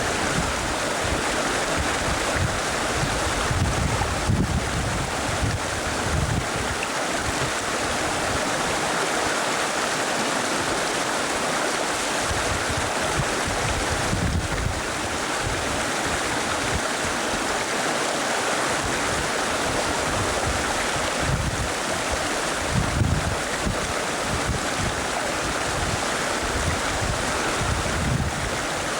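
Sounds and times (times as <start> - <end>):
wind buffeting microphone: 0.0 - 9.4, 12.2 - 17.6, 18.7 - 28.9
river water rushing: 0.0 - 28.9.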